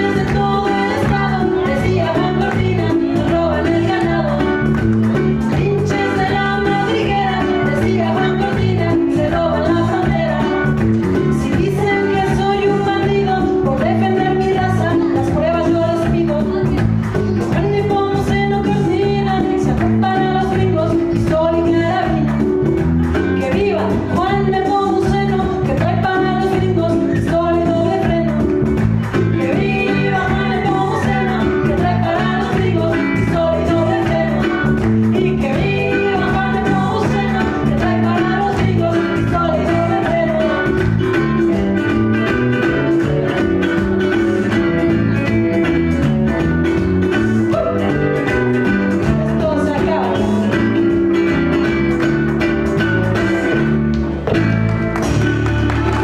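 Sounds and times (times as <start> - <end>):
woman singing: 0.0 - 53.8
ukulele strumming: 0.0 - 56.0.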